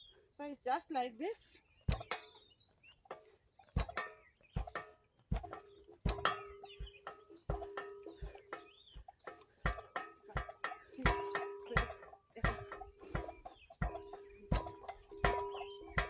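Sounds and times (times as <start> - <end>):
exercise machine knocking: 1.9 - 2.4, 3.0 - 16.0.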